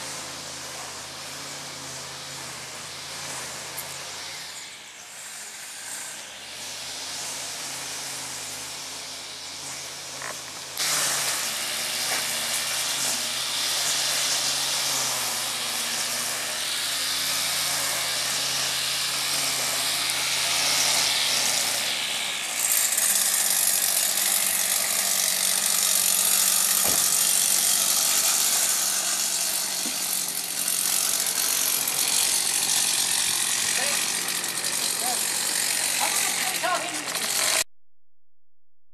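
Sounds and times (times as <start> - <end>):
small engine running: 0.0 - 37.7.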